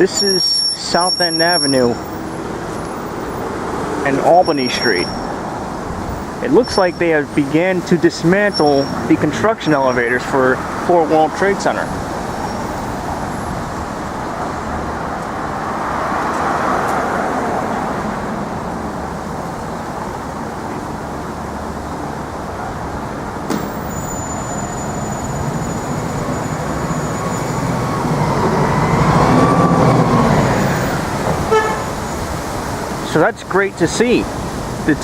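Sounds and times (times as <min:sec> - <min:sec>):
passing vehicles: 0:00.0 - 0:35.0.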